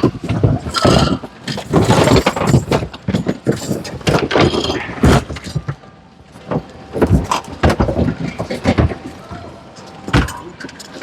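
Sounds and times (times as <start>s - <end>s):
hard goods clattering and rattling: 0.0s - 11.0s.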